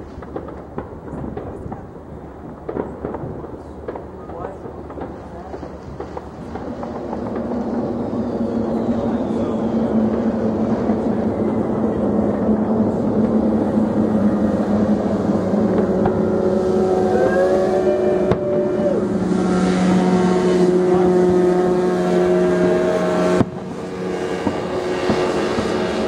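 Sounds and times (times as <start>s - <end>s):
firework bang: 0.0s - 17.0s, 17.6s - 21.9s, 22.9s - 26.0s
motorboat engine droning: 4.3s - 26.0s.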